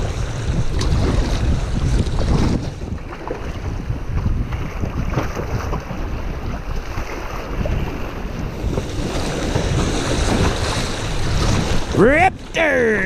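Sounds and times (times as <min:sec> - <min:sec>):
river water rushing and splashing: 0:00.0 - 0:13.0
wind buffeting microphone: 0:00.0 - 0:13.0.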